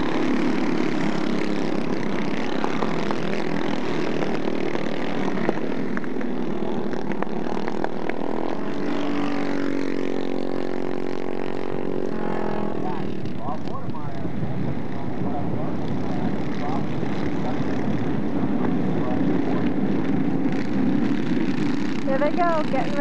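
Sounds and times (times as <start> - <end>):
kart engines buzzing: 0.0 - 23.0.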